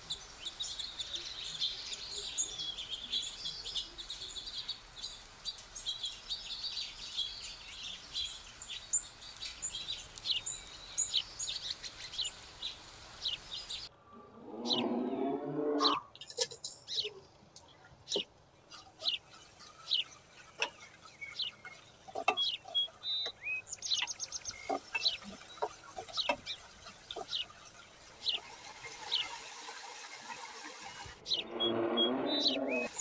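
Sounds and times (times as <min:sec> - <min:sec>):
bird chirping: 0:00.0 - 0:13.9, 0:14.6 - 0:29.5, 0:31.2 - 0:33.0
chicken sizzling in oil: 0:00.0 - 0:13.9, 0:18.7 - 0:31.5.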